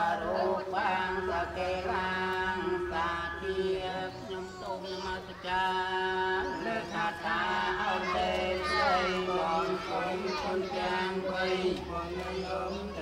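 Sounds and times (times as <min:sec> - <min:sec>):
prayer chanting: 0:00.0 - 0:13.0.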